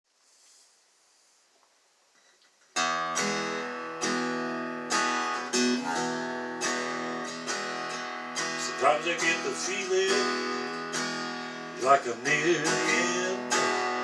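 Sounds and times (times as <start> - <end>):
acoustic guitar strumming: 2.7 - 14.0.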